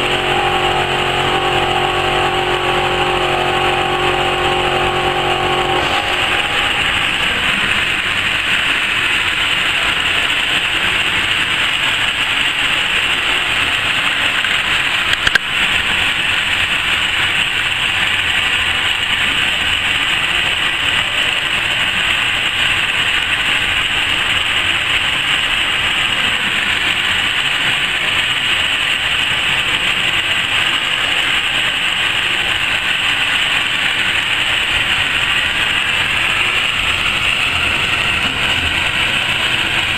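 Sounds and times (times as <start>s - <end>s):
laser cutting machine whirring: 0.0s - 15.4s, 20.2s - 39.9s.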